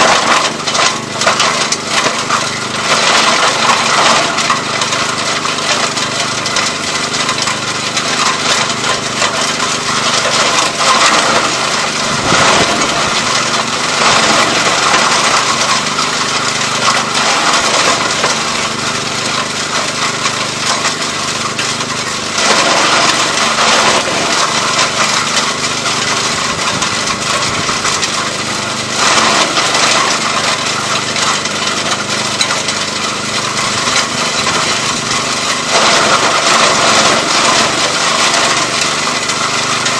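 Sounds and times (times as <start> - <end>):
garden chipper engine running: 0.0 - 39.9
wood splintering crackle: 0.0 - 39.9.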